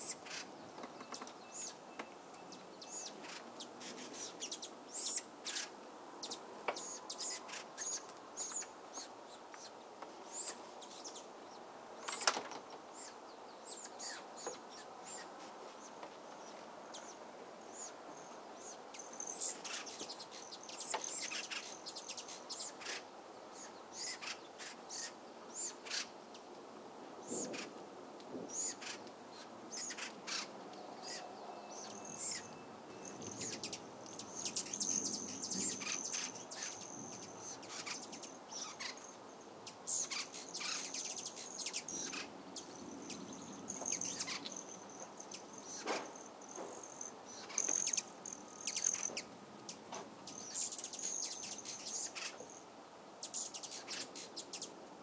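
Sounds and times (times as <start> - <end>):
small birds chirping: 0.0 - 55.0
soft steady hiss: 0.0 - 55.0.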